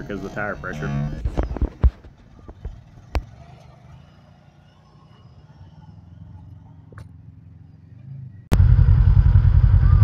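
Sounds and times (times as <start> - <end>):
faint engine rumble: 0.0 - 10.0.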